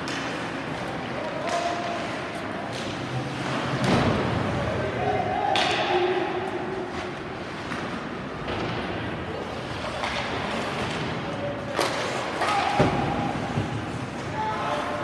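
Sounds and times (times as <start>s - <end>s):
skates and sticks on ice: 0.0s - 15.0s.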